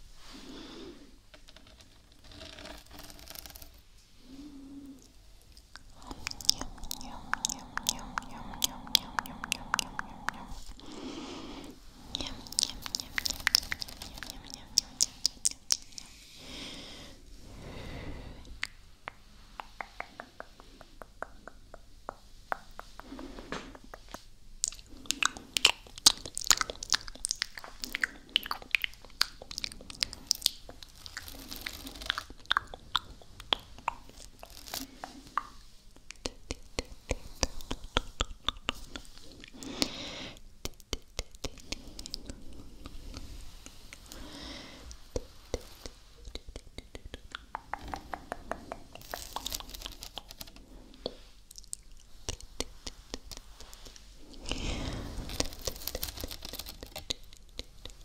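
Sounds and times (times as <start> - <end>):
wet mouth clicks and smacks: 5.4 - 10.6, 12.1 - 16.1, 18.5 - 39.8, 40.6 - 44.3, 44.9 - 54.6, 55.2 - 58.0.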